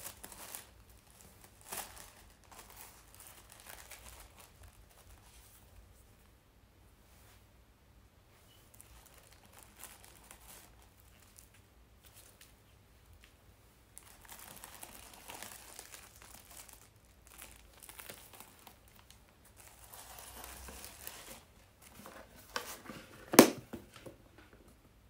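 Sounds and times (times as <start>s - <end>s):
tissue paper and plastic crinkling: 0.0s - 5.8s, 8.5s - 23.6s.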